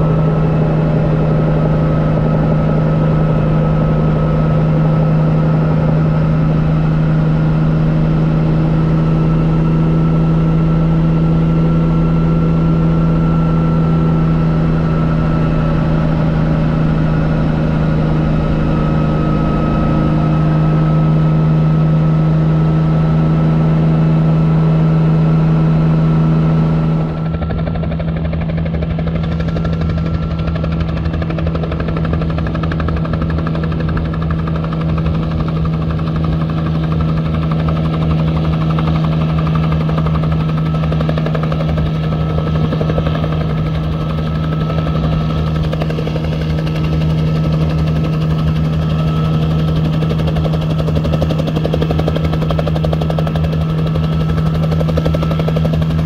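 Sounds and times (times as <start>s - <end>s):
helicopter engine and rotor: 0.0s - 56.0s.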